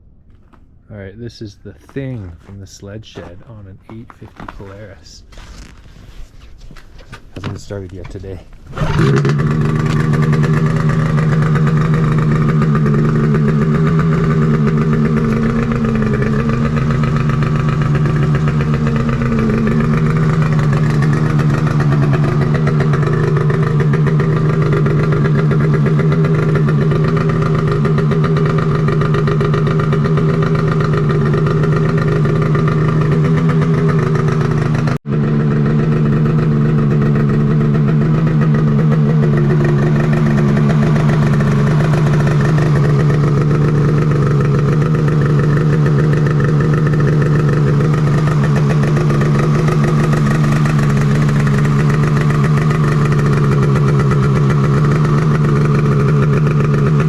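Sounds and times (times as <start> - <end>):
snowmobile engine idling: 0.3 - 57.0.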